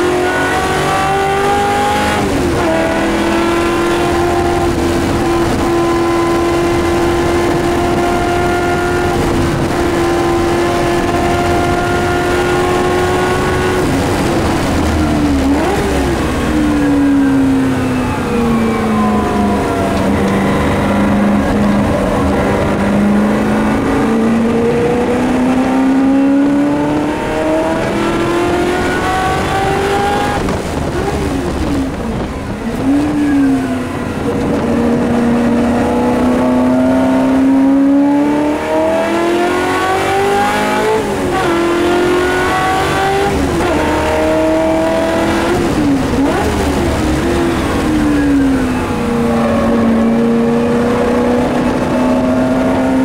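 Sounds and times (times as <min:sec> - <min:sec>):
car engine revving under load: 0:00.0 - 0:53.0.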